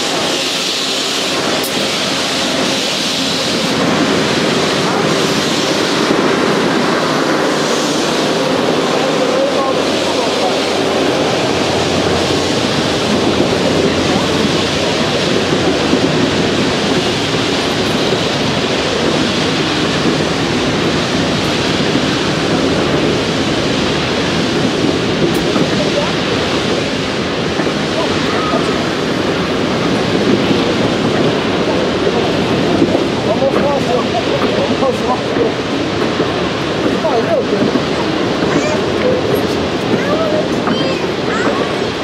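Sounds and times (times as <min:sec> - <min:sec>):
train wheels rolling on rails: 0:00.0 - 0:42.0.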